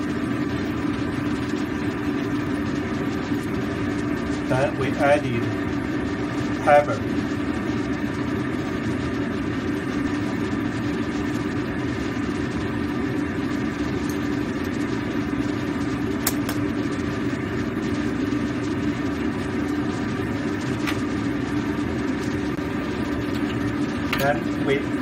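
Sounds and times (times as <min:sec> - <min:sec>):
gas stove hum: 0:00.0 - 0:25.0.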